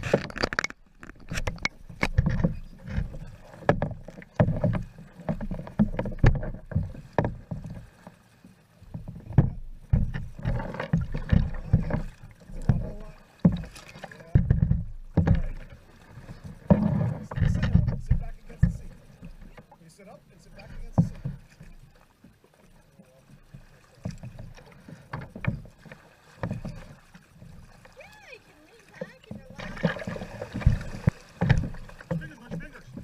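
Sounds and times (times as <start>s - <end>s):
kayak paddle knocks and thumps: 0.0s - 33.0s.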